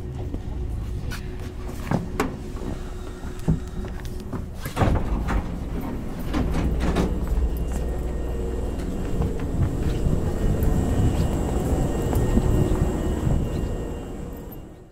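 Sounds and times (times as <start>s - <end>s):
low hum from train car: 0.0s - 14.9s
sliding train doors opening: 1.0s - 14.9s.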